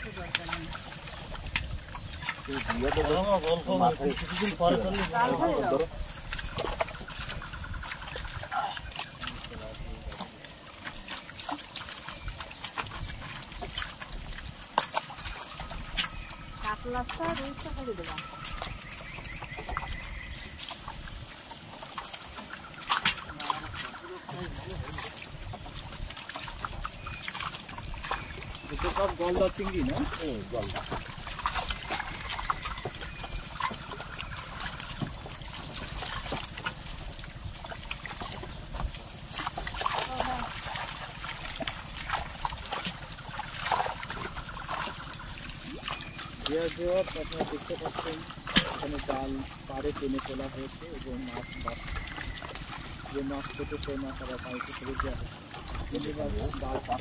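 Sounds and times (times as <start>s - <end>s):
fish flapping and splashing in net: 0.0s - 57.0s.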